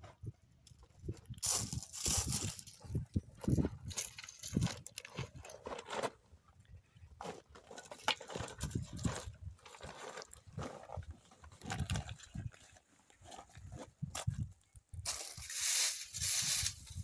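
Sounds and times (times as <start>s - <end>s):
footsteps on stony ground: 0.0s - 6.4s, 7.0s - 17.0s.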